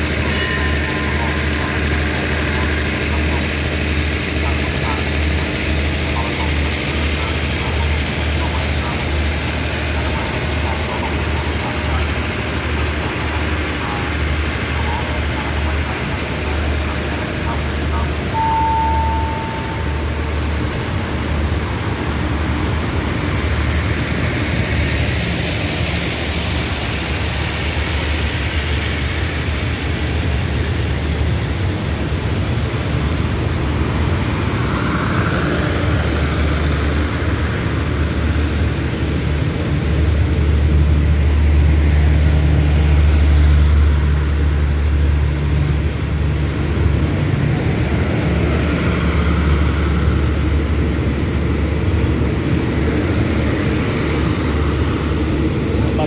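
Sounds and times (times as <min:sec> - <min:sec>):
diesel train engine rumbling: 0:00.0 - 0:56.0.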